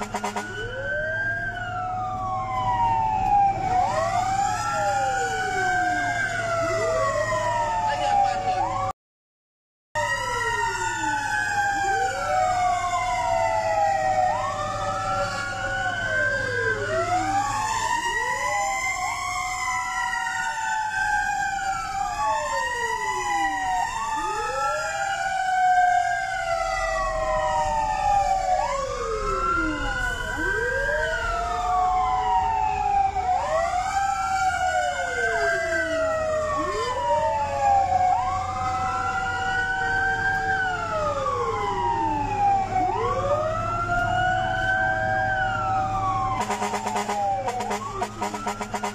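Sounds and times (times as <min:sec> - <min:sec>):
fire engine sirens wailing: 0:00.0 - 0:09.0, 0:10.0 - 0:48.9.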